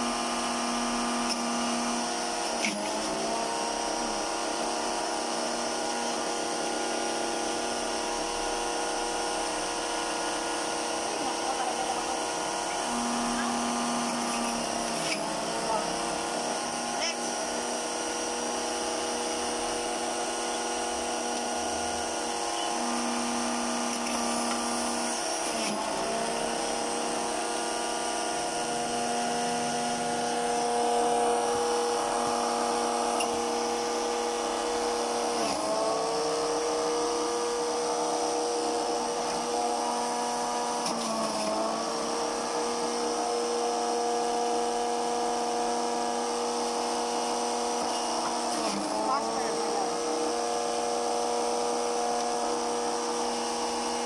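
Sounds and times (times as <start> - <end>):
juicer motor whining: 0.0 - 54.0.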